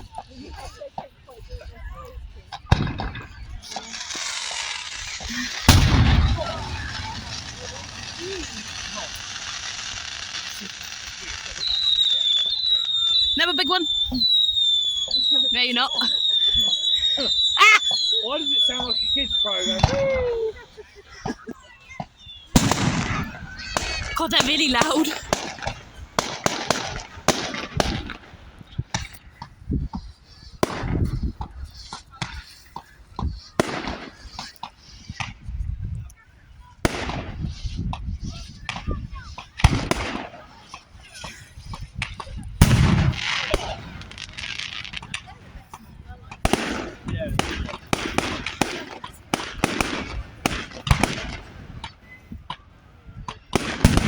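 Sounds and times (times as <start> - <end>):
fireworks crackling hiss: 0.0 - 54.0
fireworks bangs: 2.3 - 35.8, 36.6 - 54.0.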